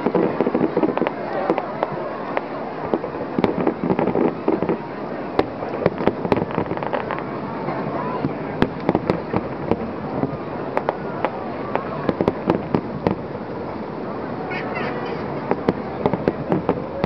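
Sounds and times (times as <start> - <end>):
fireworks pops and bangs: 0.0 - 17.0.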